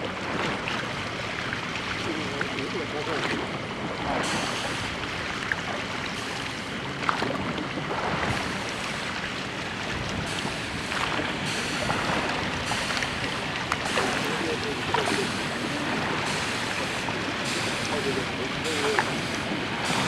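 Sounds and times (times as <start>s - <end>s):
water and wind rushing: 0.0s - 20.0s.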